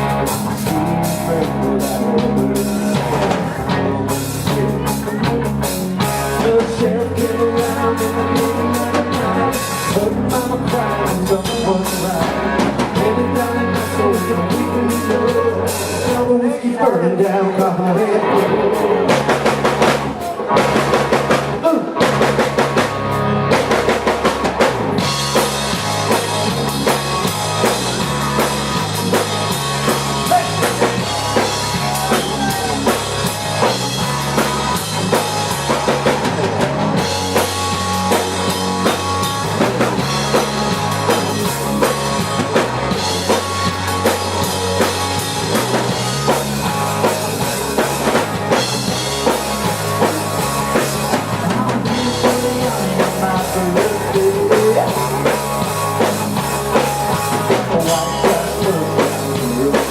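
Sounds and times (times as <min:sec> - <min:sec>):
country-rock band playing: 0:00.0 - 0:59.9.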